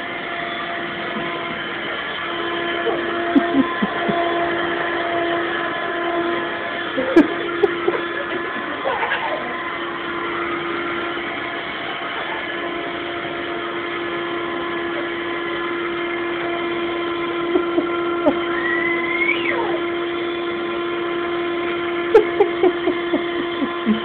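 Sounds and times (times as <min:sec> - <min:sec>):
high squeal: 0:00.0 - 0:24.0
vacuum cleaner motor humming: 0:00.0 - 0:24.0.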